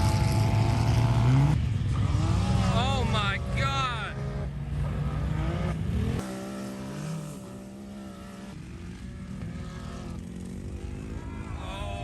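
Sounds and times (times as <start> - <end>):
off-road vehicle engines running: 0.0 - 12.0.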